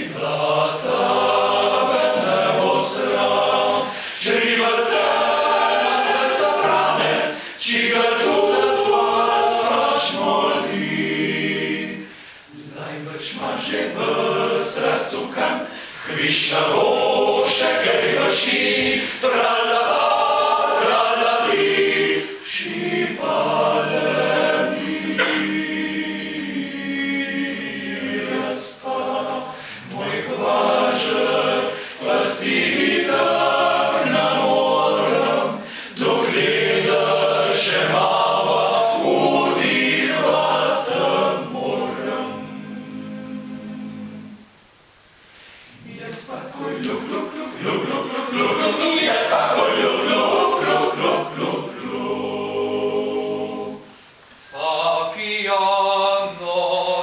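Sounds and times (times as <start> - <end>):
men's choir singing in harmony: 0.0 - 44.5, 45.7 - 57.0.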